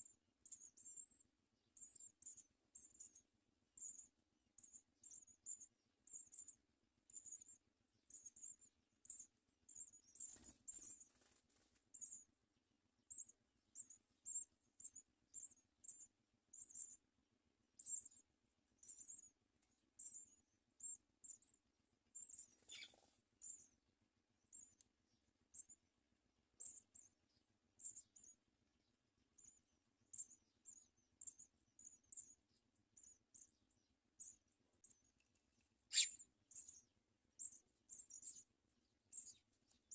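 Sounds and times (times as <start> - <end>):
sparrows cheeping: 0.0 - 39.9.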